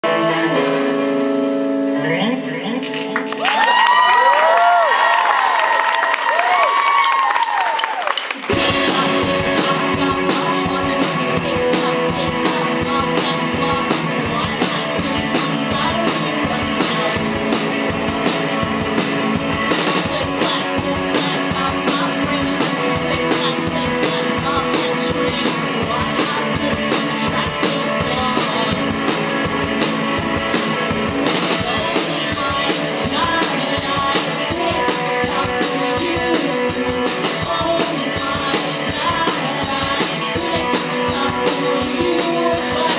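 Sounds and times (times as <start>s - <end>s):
electric guitar: 0.0s - 42.9s
drum kit steady beat: 6.4s - 42.9s.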